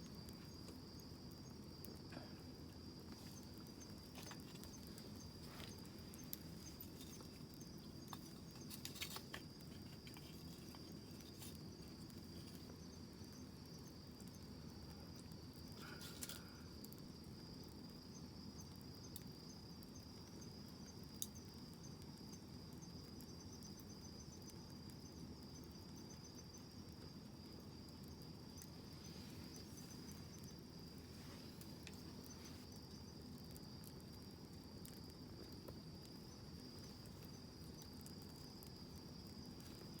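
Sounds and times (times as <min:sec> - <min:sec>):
campfire crackling: 0:00.0 - 0:40.0
fire popping: 0:00.0 - 0:40.0
insects trilling: 0:00.0 - 0:40.0
low steady hiss: 0:00.0 - 0:40.0.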